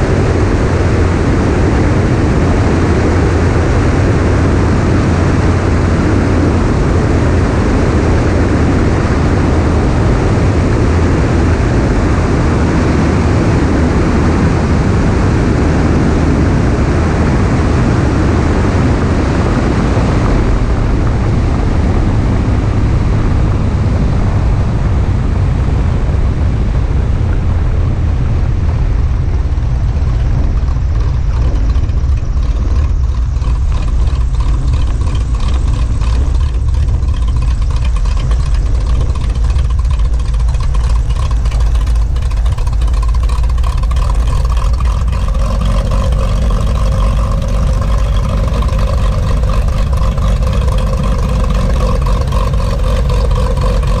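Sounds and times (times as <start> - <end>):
light aircraft engine and propeller: 0.0 - 54.0
steady low rumble: 0.0 - 54.0.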